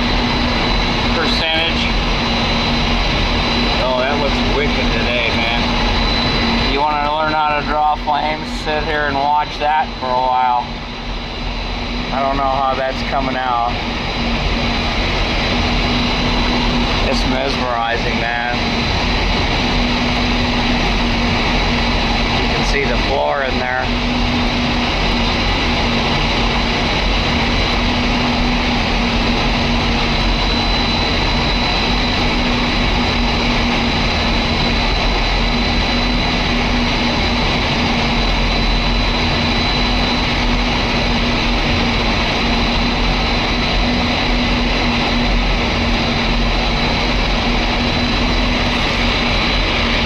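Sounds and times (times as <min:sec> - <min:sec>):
high whine: 0:00.0 - 0:50.0.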